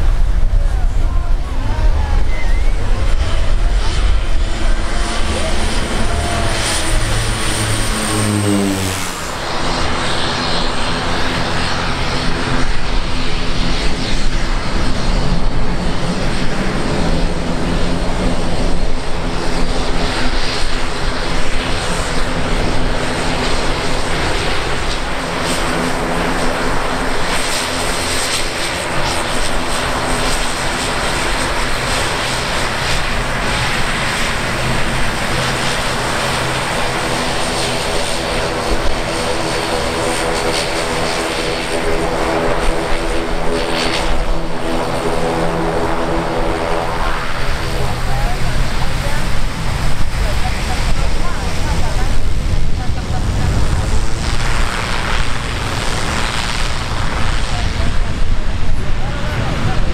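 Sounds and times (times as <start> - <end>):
plane passing low overhead: 0.0 - 59.9
turboprop engines humming: 0.0 - 59.9.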